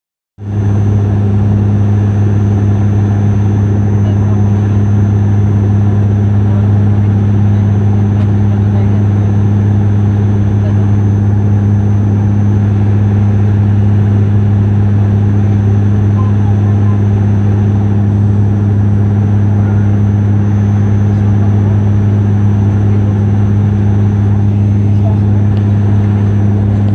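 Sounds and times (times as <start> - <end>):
propeller drone in cabin: 0.4 - 26.9.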